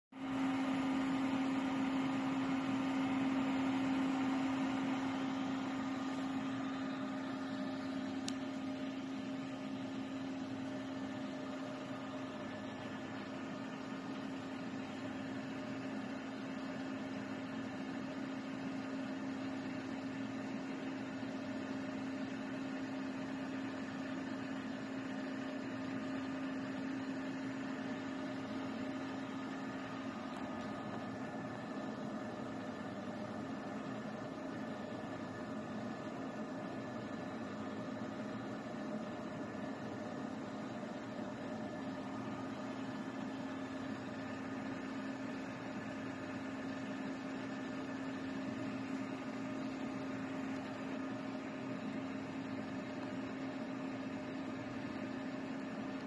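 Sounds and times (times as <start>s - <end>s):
laser machine hum: 0.2s - 56.0s.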